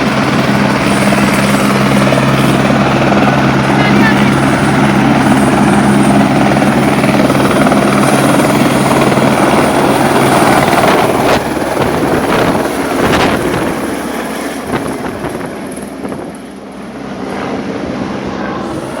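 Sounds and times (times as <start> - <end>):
helicopter rotor whirring: 0.0 - 19.0.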